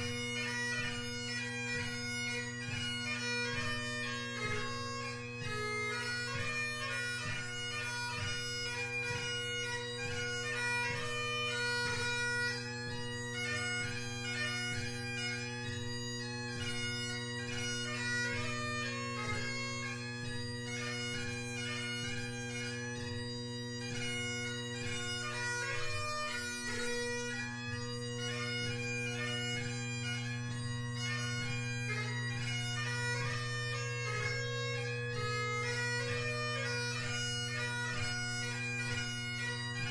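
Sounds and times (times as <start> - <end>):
bagpipe drones: 0.0 - 39.9
fast bagpipe chanter melody: 0.0 - 39.9.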